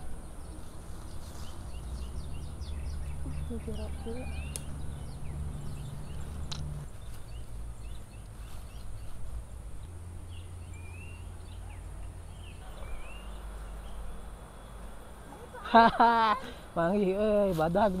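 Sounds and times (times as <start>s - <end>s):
steady low rumble: 0.0s - 15.4s
small birds chirping: 0.0s - 18.0s.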